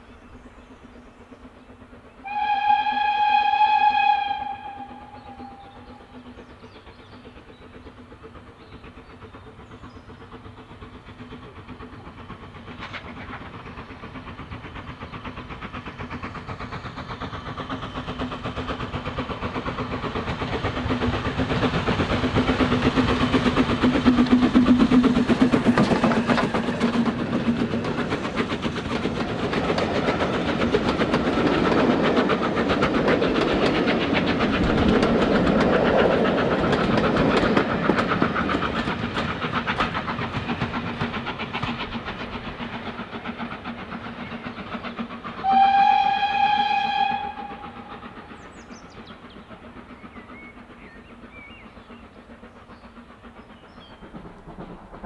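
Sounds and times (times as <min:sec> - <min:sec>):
train running along the line: 0:00.0 - 0:55.0.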